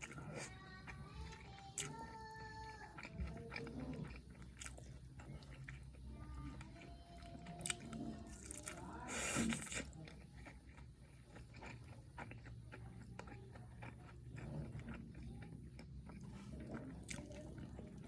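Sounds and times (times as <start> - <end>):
quiet wet chewing: 0.0 - 18.0.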